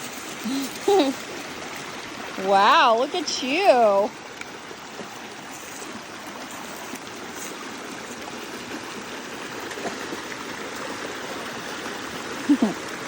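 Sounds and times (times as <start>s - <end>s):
mountain stream flowing: 0.0s - 13.0s.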